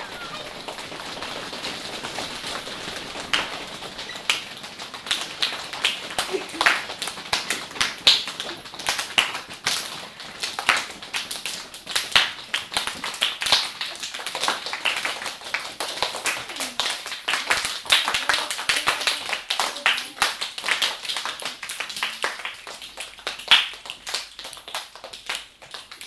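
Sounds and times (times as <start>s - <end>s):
hands clapping and tapping like rain: 0.0s - 26.0s.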